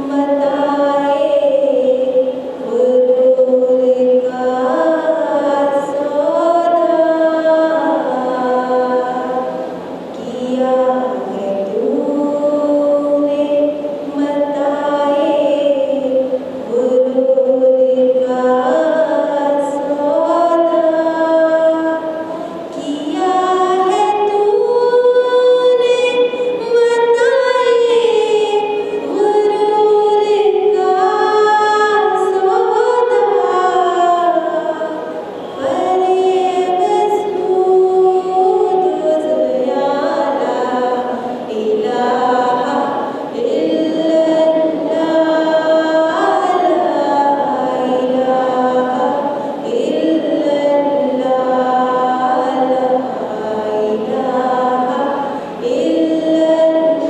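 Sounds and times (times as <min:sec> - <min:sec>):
woman singing into a microphone: 0:00.0 - 0:57.0.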